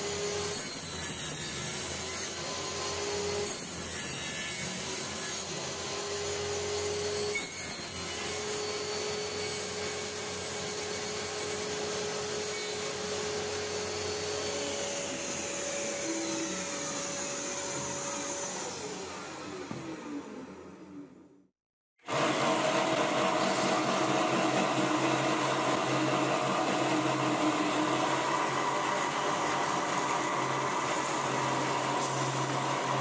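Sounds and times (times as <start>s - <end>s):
table saw cutting plywood: 0.0s - 21.2s, 22.0s - 33.0s.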